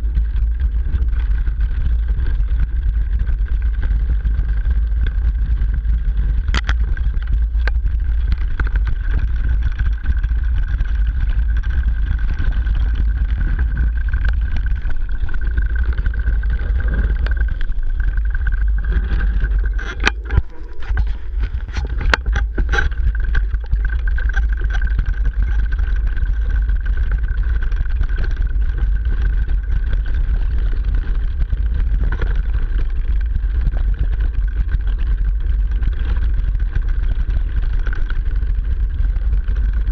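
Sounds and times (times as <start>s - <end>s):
bike suspension movement: 0.0s - 39.9s
bike tyres crunching over rocks: 0.0s - 39.9s.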